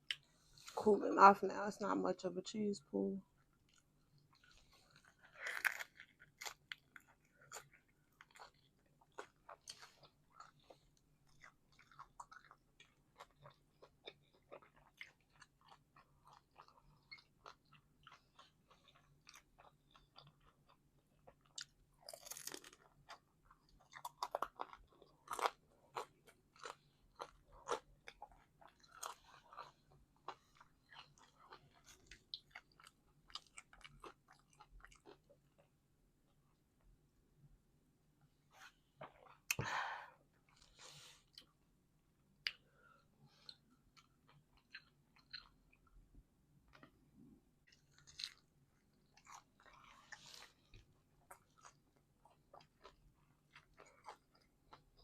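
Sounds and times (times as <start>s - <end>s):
person chewing food: 3.4s - 35.8s, 38.6s - 41.6s, 42.3s - 55.0s.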